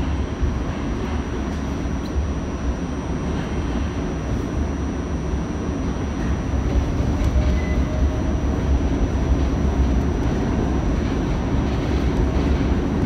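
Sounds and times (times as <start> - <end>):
subway car rumble: 0.0 - 13.0.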